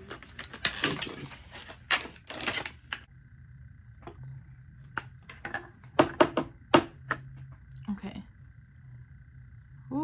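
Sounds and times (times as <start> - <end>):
faint steady whine: 0.0 - 10.0.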